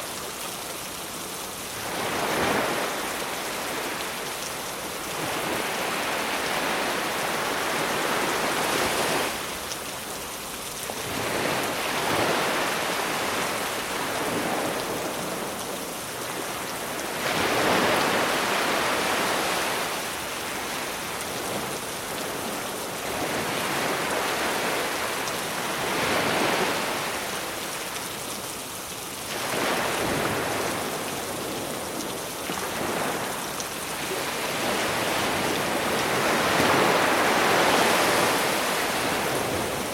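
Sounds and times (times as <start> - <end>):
sea waves surging onto beach: 0.0 - 39.9.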